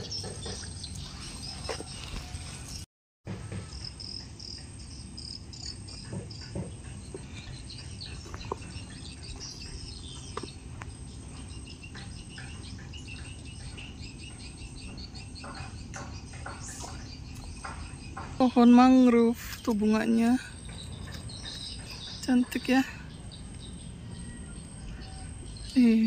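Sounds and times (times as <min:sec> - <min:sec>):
insects and birds chirping: 0:00.0 - 0:26.0.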